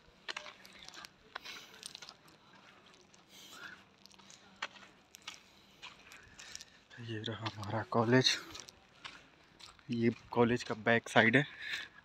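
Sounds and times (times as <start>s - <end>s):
footsteps on dry leaves and dirt: 0.0s - 12.0s.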